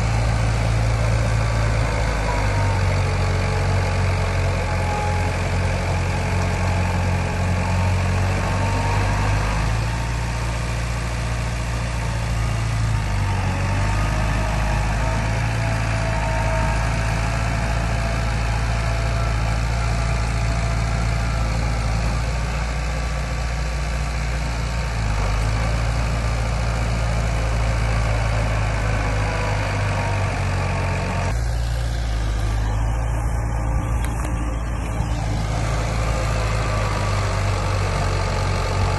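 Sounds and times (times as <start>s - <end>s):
heavy machinery diesel engine running: 0.0s - 38.9s.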